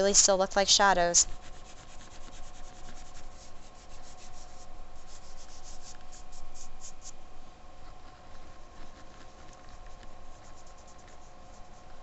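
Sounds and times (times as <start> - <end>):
pastel scraping over paper: 1.2 - 7.2, 7.8 - 12.0.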